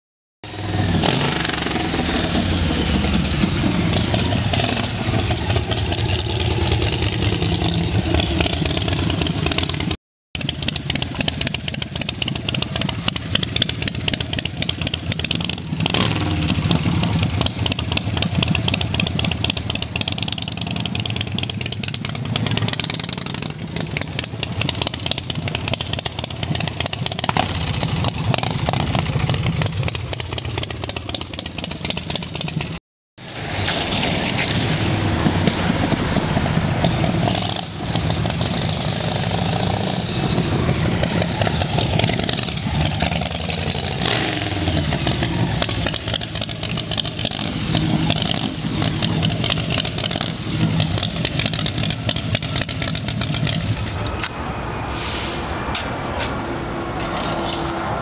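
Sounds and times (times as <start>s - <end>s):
motorcycle engine running: 0.5s - 32.8s, 35.0s - 54.1s.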